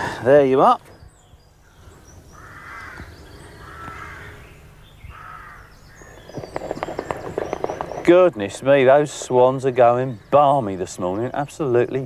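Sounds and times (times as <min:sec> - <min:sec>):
harsh hoarse bird calls: 0:00.0 - 0:12.0.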